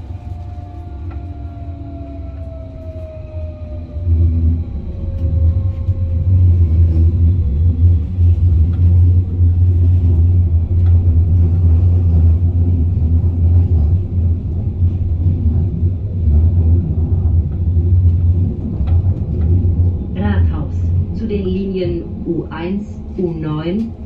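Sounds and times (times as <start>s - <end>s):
train rumbling through tunnel: 0.0s - 24.0s.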